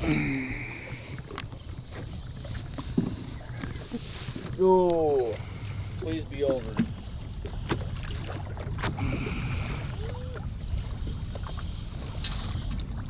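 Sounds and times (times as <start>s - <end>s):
water lapping at boat: 0.0s - 13.0s.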